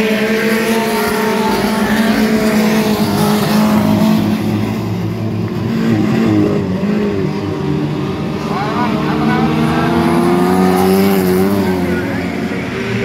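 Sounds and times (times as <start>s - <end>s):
race car engine running: 0.0s - 13.0s.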